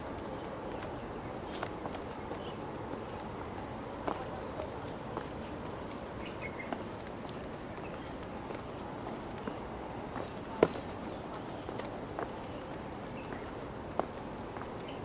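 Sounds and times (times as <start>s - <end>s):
footsteps on stone steps: 0.0s - 15.0s
insects chirping faintly: 0.0s - 15.0s.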